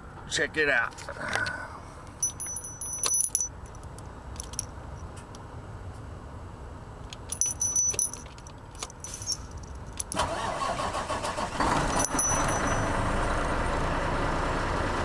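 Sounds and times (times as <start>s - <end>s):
diesel engine cranking and idling: 1.2s - 15.0s.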